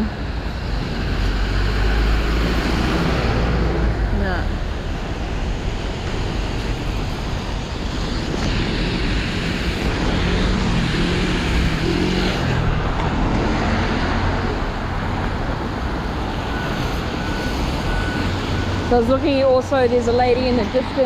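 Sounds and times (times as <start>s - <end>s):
passing vehicle engine: 0.0s - 5.7s, 7.2s - 21.0s.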